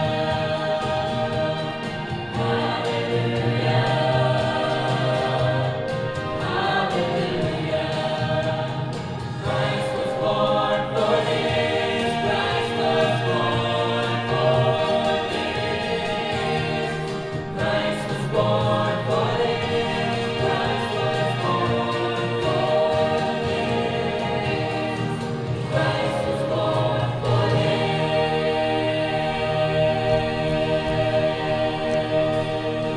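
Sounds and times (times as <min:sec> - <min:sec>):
church choir singing: 0:00.0 - 0:32.9.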